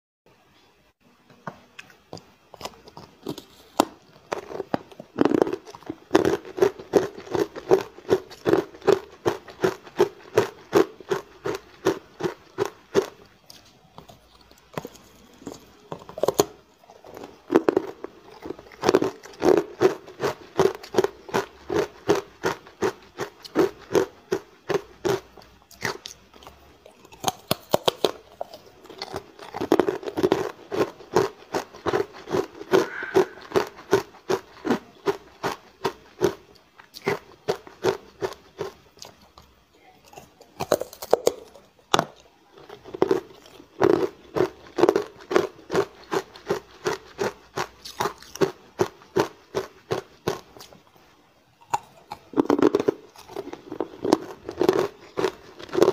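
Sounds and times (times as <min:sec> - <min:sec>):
ice crunching while chewed: 0:01.8 - 0:51.0, 0:51.6 - 0:55.9.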